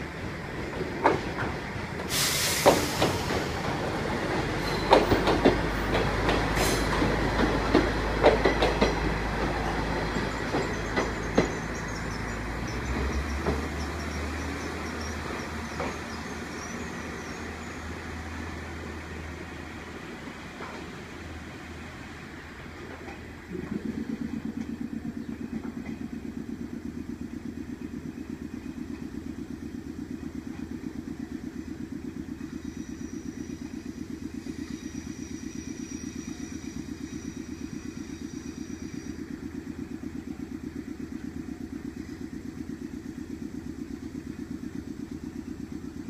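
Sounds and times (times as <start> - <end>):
train machinery pulsing: 0.0 - 46.0.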